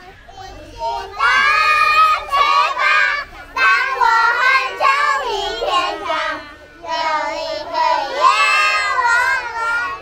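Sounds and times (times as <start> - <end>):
young children singing: 0.0 - 10.0.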